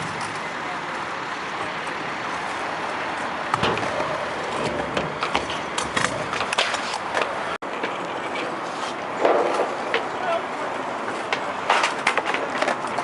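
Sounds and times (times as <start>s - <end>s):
scooter wheels clacking on concrete: 1.6s - 10.4s, 11.0s - 13.0s.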